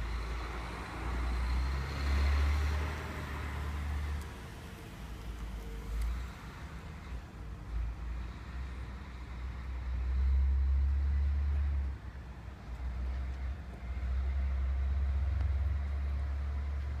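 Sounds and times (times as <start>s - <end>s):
motor vehicle low rumble: 0.0s - 17.0s.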